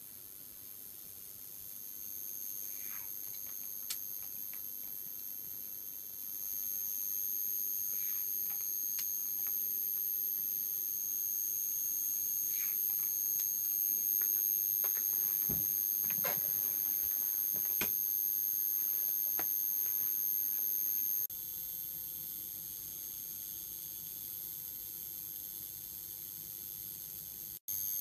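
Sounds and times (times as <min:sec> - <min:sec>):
high-pitched electrical whine: 0:00.0 - 0:28.0.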